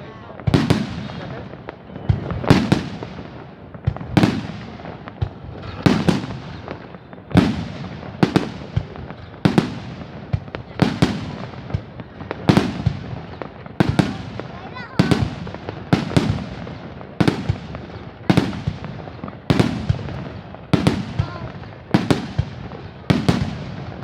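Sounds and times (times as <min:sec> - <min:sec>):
fireworks bangs with echo: 0:00.0 - 0:24.0.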